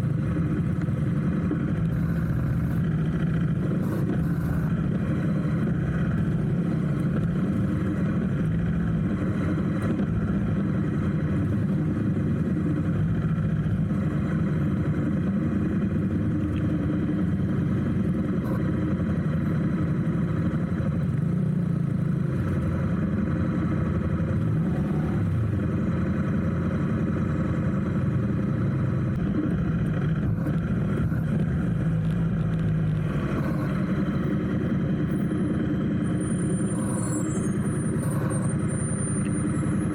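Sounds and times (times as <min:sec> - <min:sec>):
motorcycle engine running: 0:00.0 - 0:39.9
traffic hum: 0:00.0 - 0:39.9.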